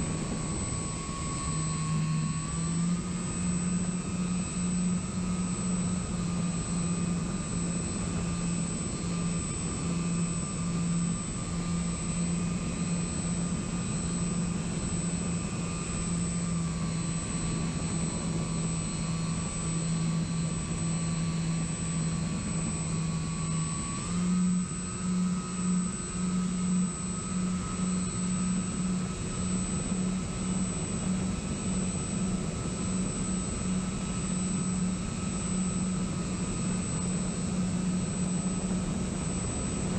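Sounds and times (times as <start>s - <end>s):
model plane motor drone: 0.0s - 39.9s.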